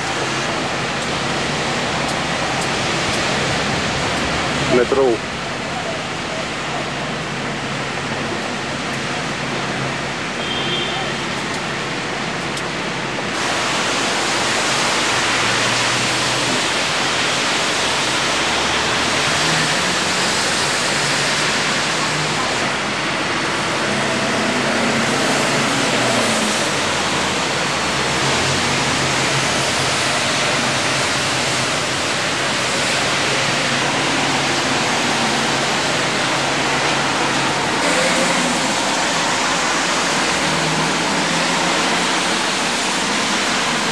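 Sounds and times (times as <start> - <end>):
rain on wet street: 0.0 - 43.9
traffic on wet street: 0.0 - 43.9.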